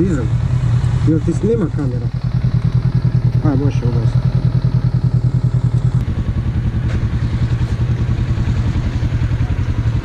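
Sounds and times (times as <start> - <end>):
boat diesel engine thumping: 1.4 - 10.0.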